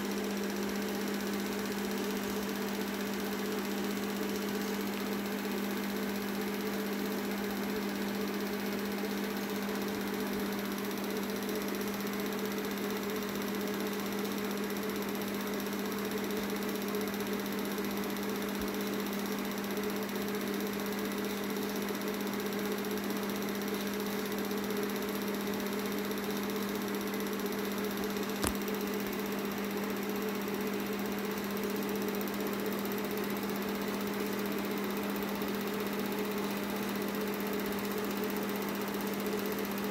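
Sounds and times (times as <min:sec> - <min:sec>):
film projector motor whirring: 0:00.0 - 0:39.9.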